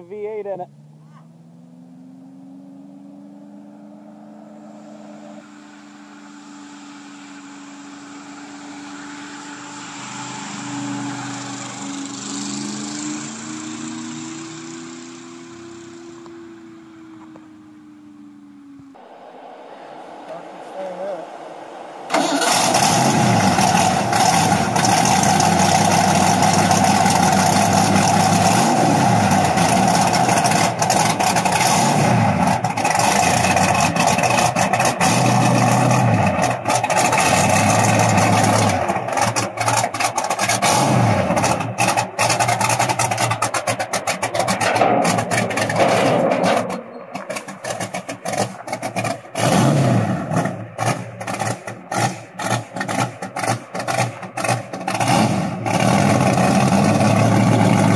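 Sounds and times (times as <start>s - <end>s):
engine revving: 0.0s - 57.9s.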